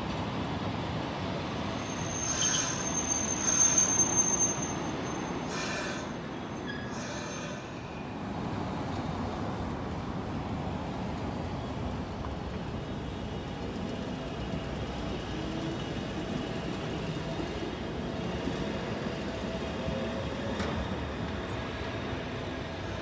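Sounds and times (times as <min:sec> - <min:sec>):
passing road traffic: 0:00.0 - 0:23.0
streetcar wheels rumbling: 0:00.0 - 0:23.0.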